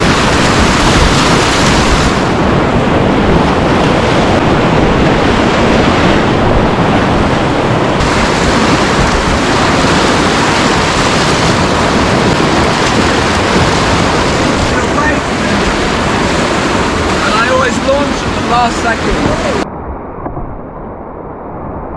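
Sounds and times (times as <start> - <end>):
whitewater rapids rushing: 0.0 - 19.6.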